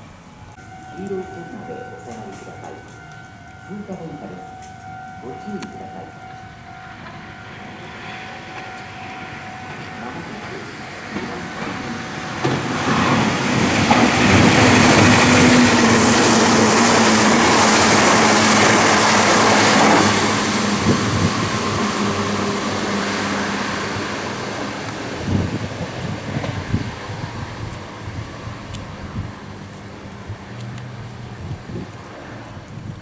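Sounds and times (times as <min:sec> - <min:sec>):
electric train passing: 0:00.0 - 0:33.0.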